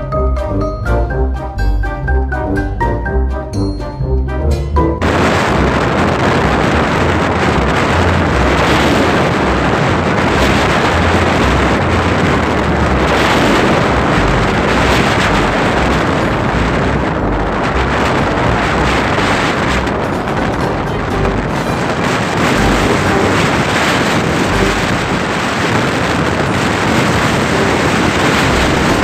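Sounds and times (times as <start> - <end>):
road rumble: 0.0 - 29.0
wind rushing over microphone: 0.0 - 29.0
motorcycle engine: 5.0 - 29.0.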